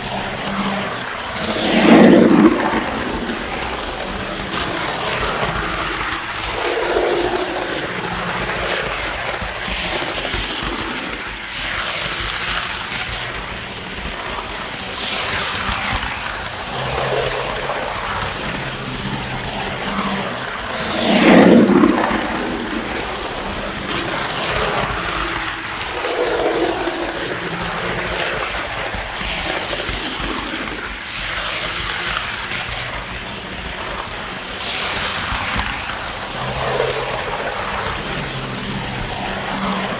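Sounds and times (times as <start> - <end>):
loud burst of noise: 0.0 - 39.9
model train wheels clattering on rails: 0.0 - 39.9.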